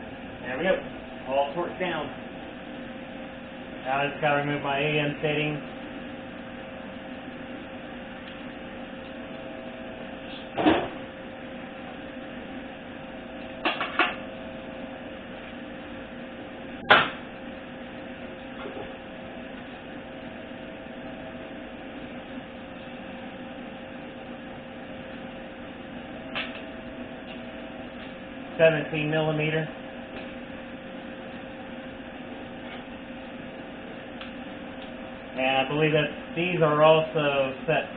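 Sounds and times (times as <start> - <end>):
steady shop hum: 0.0 - 37.9.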